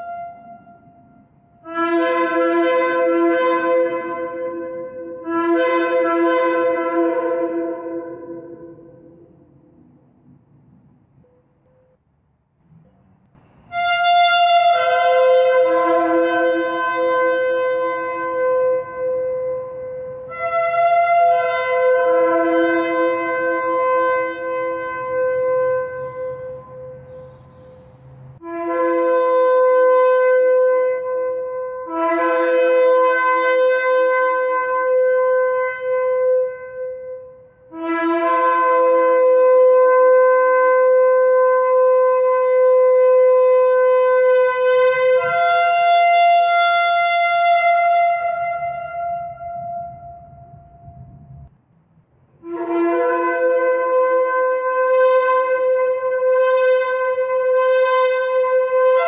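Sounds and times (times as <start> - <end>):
horn blasts: 0.0 - 9.6, 13.4 - 51.6, 52.4 - 59.0.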